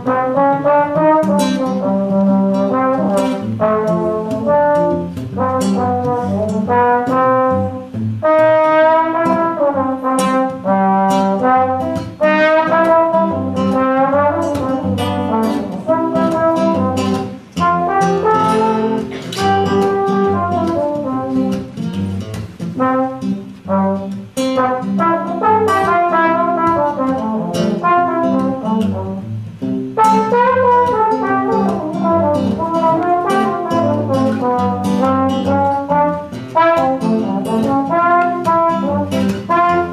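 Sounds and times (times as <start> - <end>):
acoustic guitar chords: 0.0 - 39.9
trombone melody: 0.0 - 39.9.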